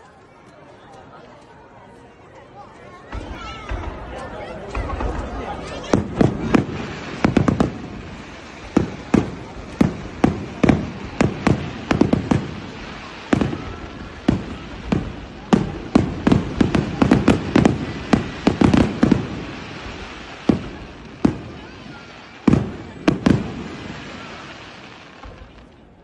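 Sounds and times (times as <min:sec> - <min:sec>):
fireworks exploding: 0:03.1 - 0:26.0.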